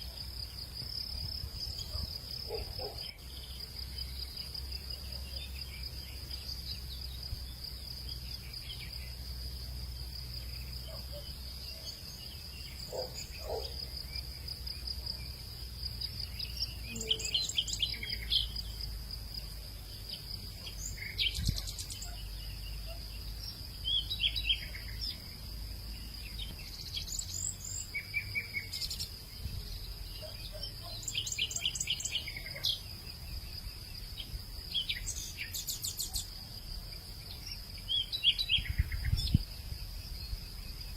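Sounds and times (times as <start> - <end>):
insects trilling: 0.0 - 40.9
birds chirping: 1.5 - 9.3, 10.2 - 39.5.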